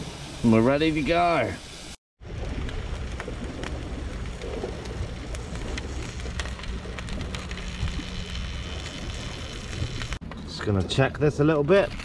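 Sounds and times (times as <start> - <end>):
charcoal fire crackling and popping: 2.2 - 12.0
steady low rumble: 2.2 - 12.0.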